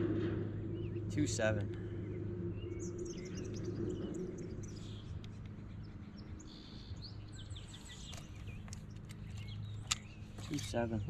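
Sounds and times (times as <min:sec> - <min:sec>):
steady low hum: 0:00.0 - 0:11.0
small birds chirping: 0:00.7 - 0:11.0.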